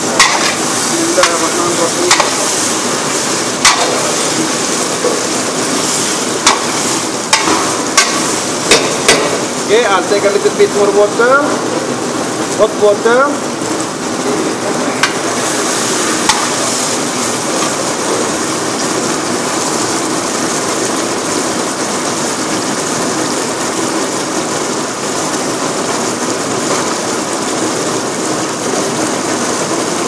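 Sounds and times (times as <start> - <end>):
stew boiling with rushing hiss: 0.0 - 30.0.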